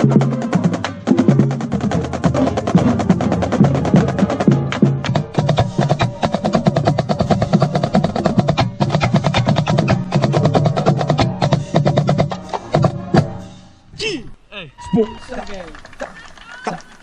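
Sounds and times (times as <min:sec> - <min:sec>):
marching drums playing rapidly: 0:00.0 - 0:13.6.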